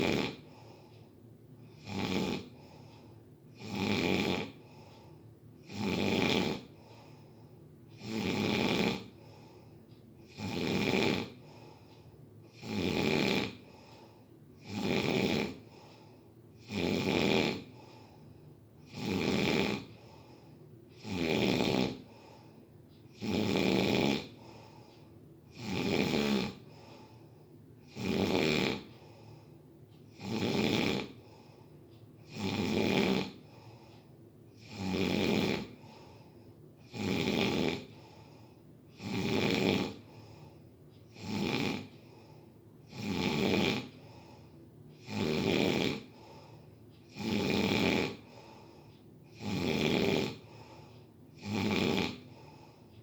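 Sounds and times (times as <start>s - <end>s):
person snoring: 0.0s - 0.9s, 1.6s - 18.2s, 18.8s - 29.5s, 30.1s - 31.6s, 32.2s - 33.9s, 34.5s - 52.9s
quiet breathing: 0.0s - 53.0s.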